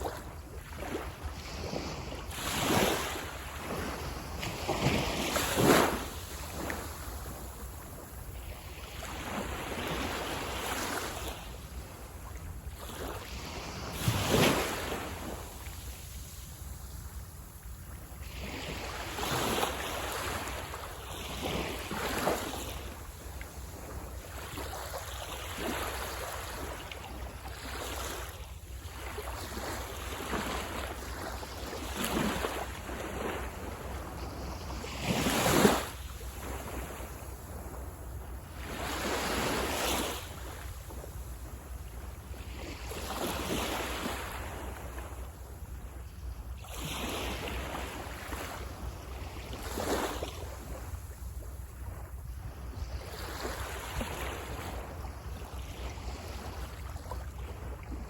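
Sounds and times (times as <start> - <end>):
waves washing onto sandy beach: 0.0 - 58.0
wind rumble on microphone: 0.0 - 58.0.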